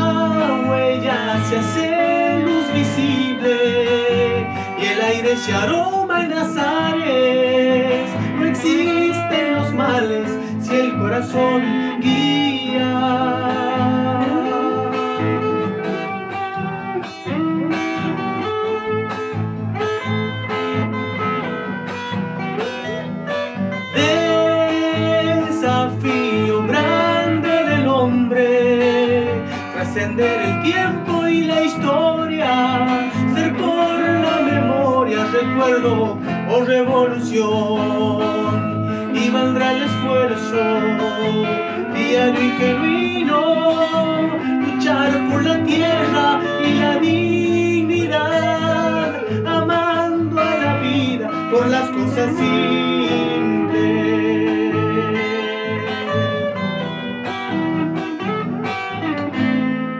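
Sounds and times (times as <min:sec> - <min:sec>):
person singing with vibrato: 0:00.0 - 0:16.7, 0:23.8 - 0:56.7
acoustic guitar strummed and plucked: 0:00.0 - 0:59.9.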